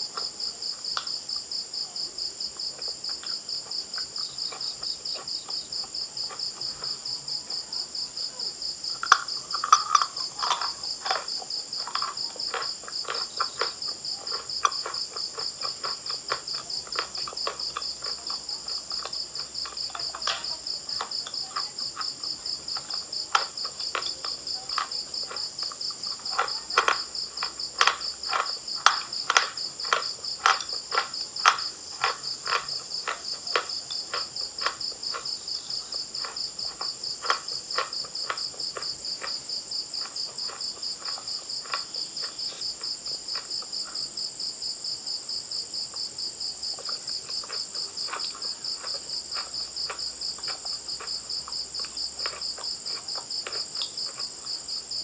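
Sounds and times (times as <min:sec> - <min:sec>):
crickets chirping: 0:00.0 - 0:55.0
crunching bites of chalk: 0:08.9 - 0:44.7, 0:45.8 - 0:55.0.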